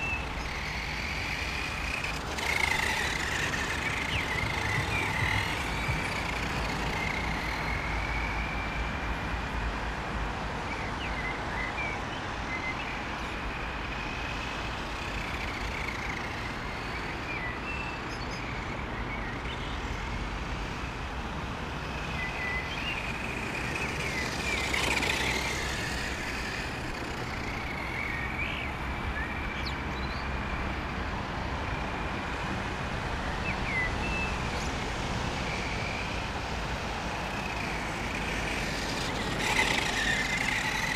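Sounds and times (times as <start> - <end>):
rc truck motor whine: 0.0 - 40.9.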